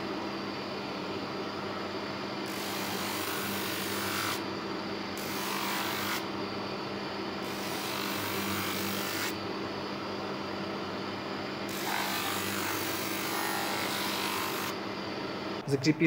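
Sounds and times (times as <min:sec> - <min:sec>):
drum sander motor hum: 0:00.0 - 0:16.0.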